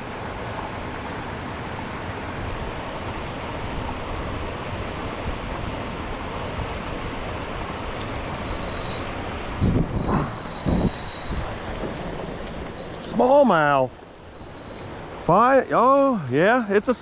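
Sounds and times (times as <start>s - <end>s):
creek rapids rushing: 0.0s - 17.0s.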